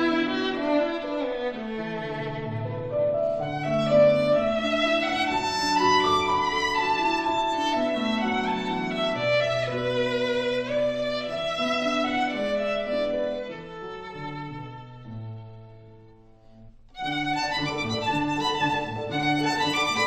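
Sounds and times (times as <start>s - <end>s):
violin melody over strings: 0.0s - 20.0s.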